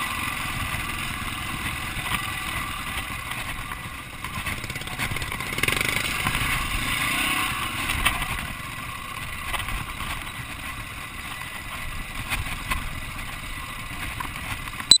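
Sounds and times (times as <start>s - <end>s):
dirt bike engine at low throttle: 0.0s - 15.0s.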